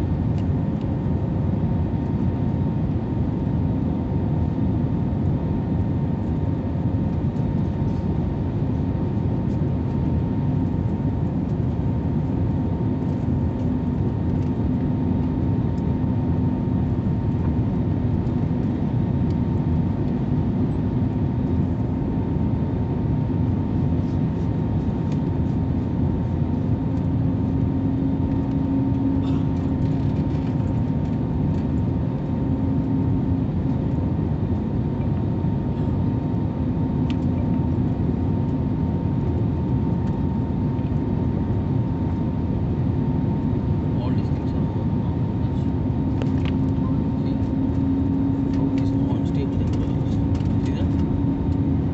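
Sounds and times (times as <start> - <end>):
aircraft engines and airflow drone: 0.0 - 51.9
steady low hum: 0.0 - 51.9.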